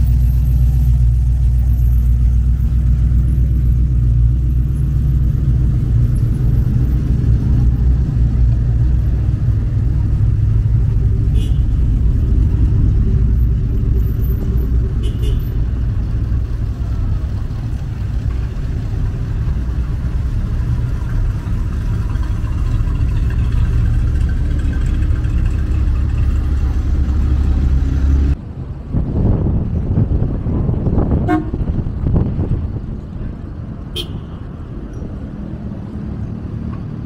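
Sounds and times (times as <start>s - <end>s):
car engines in slow traffic: 0.0s - 37.0s.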